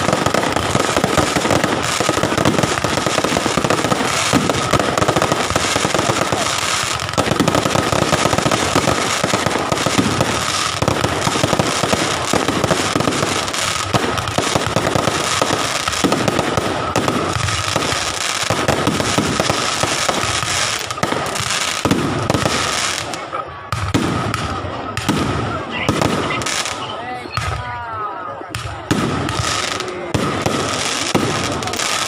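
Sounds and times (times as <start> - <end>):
firecrackers banging and crackling: 0.0 - 32.0.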